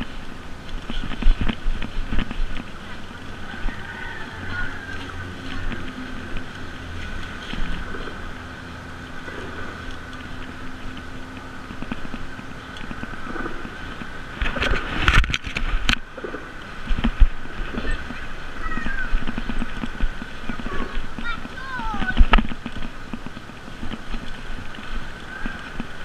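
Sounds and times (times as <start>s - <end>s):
bicycle tyres rumbling on dirt road: 0.0s - 26.0s.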